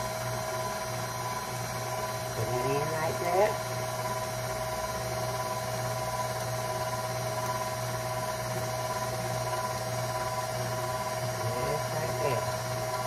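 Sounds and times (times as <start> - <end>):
electric mixer running: 0.0 - 13.0.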